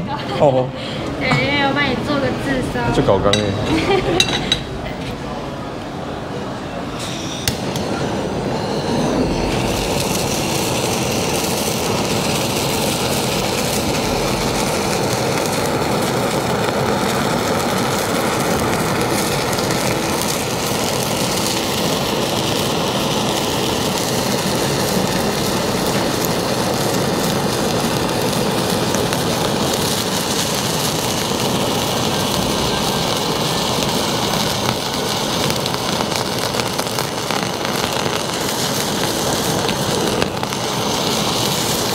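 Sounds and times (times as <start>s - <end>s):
gas torch hissing: 0.0s - 41.9s.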